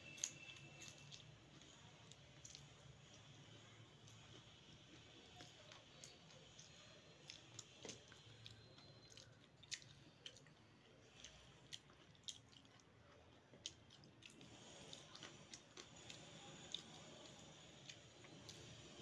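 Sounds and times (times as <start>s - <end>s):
chewing: 0.0s - 19.0s.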